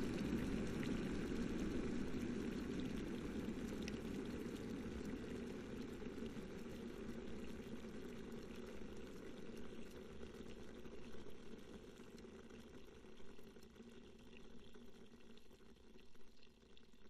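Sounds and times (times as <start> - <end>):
water boiling in boiler: 0.0 - 17.0.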